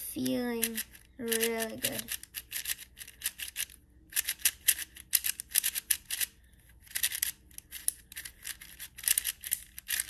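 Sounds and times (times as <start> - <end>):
speed cube clicking: 0.6 - 10.0.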